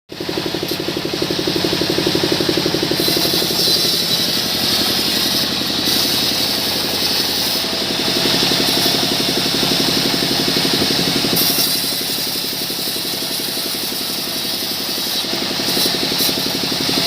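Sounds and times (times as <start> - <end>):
sawmill engine running: 0.1 - 17.0.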